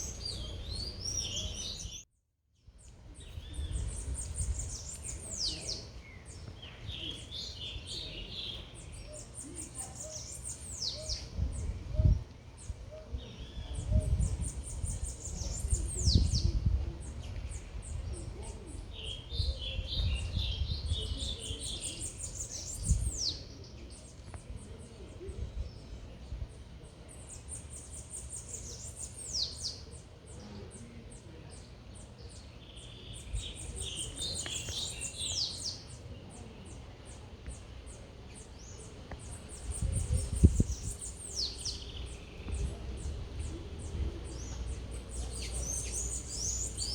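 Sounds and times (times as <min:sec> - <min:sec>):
birds chattering: 0:00.0 - 0:02.0, 0:02.8 - 0:46.9
birds chirping high: 0:00.0 - 0:46.9.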